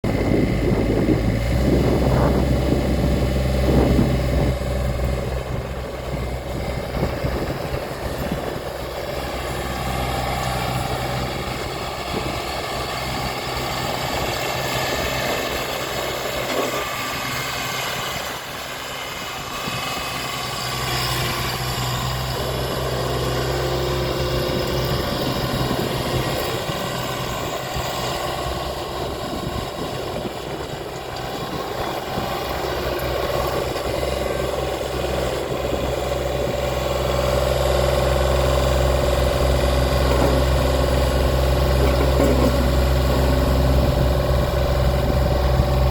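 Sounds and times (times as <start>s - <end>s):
skid steer engine running: 0.0s - 45.9s.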